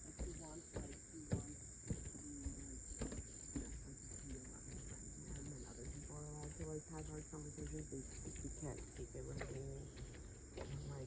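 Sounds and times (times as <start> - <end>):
insect chorus buzzing: 0.0 - 11.0.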